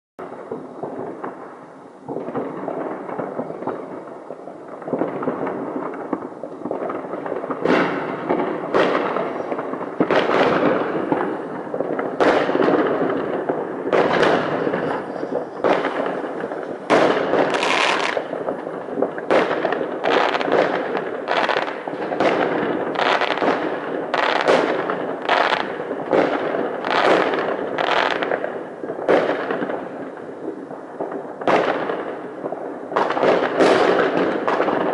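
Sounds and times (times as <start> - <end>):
fireworks bangs: 0.2 - 34.9
fireworks crackling: 0.2 - 34.9.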